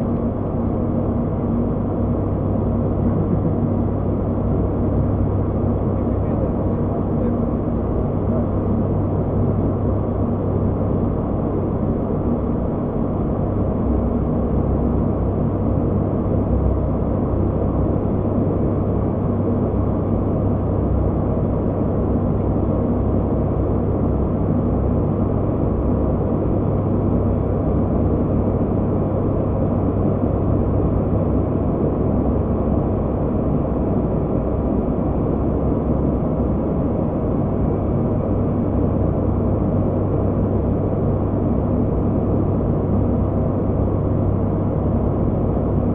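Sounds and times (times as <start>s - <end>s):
turboprop engine drone: 0.0s - 45.9s.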